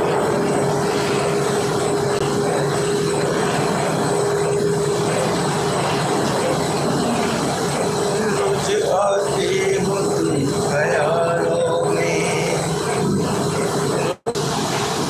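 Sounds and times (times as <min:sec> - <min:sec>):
machine running hum with tone: 0:00.0 - 0:15.0.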